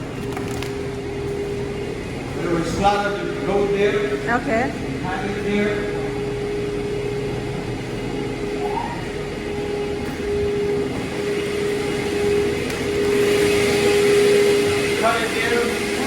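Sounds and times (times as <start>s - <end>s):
machinery drone: 0.0s - 16.0s.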